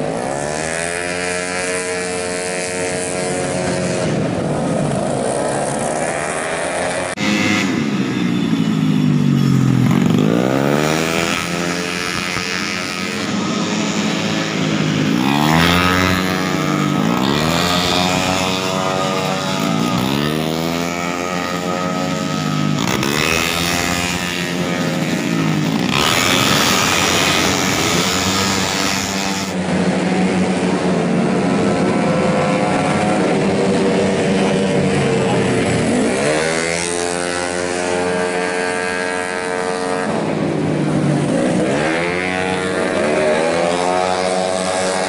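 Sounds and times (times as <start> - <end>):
scooter engines accelerating: 0.0 - 45.0.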